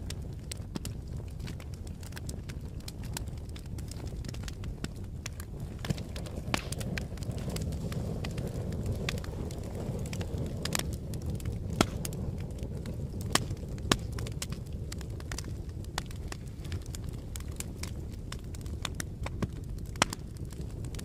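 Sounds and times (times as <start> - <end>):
log fire crackling and popping: 0.0 - 21.0.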